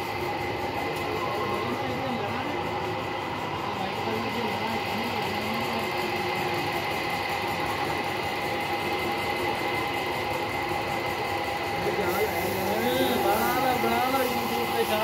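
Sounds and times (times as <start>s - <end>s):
mechanical drone with steady tones: 0.0s - 15.0s.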